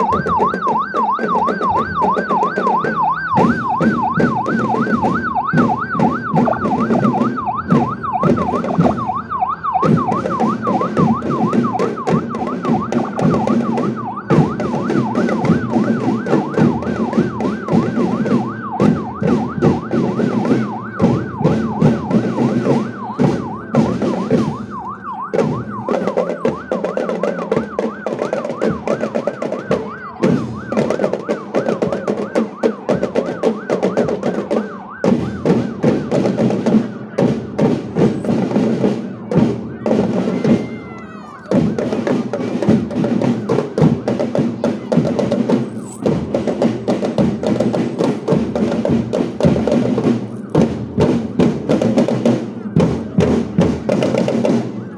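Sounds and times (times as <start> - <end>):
drum band playing: 0.0 - 54.9
siren warbling: 0.0 - 54.9.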